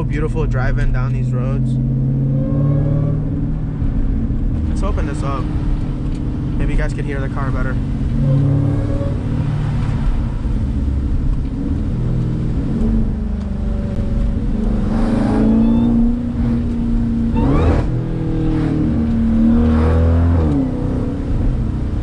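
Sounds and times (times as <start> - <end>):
car engine running while driving: 0.0 - 22.0.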